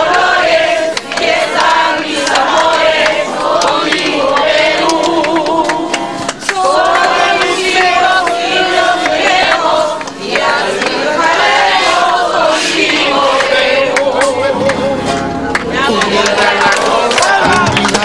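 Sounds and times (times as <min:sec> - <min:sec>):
crowd singing together: 0:00.0 - 0:18.0.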